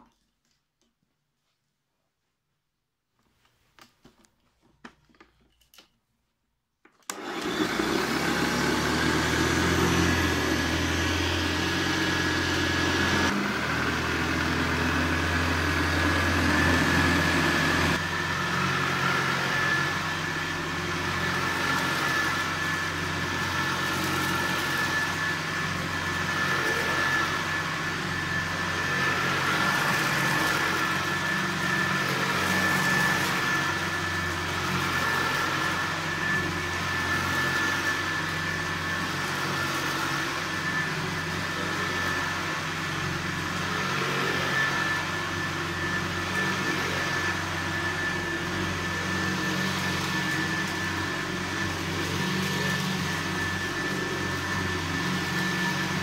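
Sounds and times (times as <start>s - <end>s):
vacuum cleaner running on carpet: 7.1s - 56.0s.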